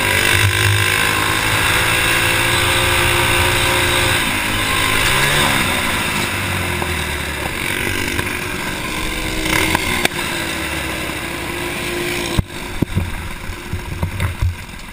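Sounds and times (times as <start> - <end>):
kart engine running: 0.0 - 14.9.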